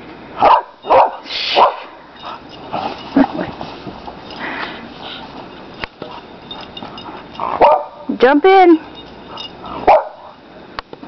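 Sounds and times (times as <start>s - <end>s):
dogs sniffing and snuffling: 0.6s - 10.4s.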